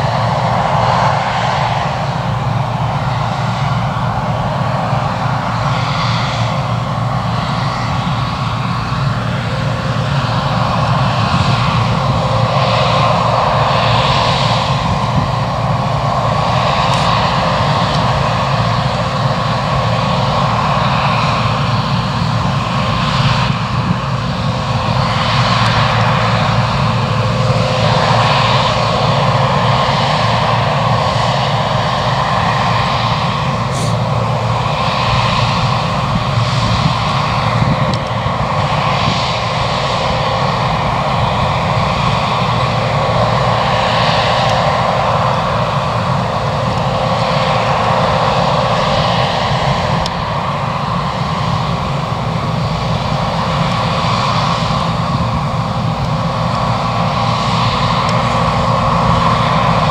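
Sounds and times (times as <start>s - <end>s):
diesel farm machinery engine drone: 0.0s - 59.9s.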